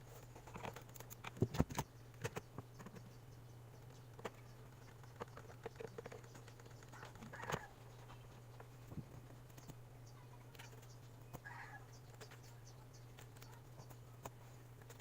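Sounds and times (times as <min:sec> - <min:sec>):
steady low hum: 0:00.0 - 0:15.0
faint clicks and taps: 0:00.2 - 0:15.0.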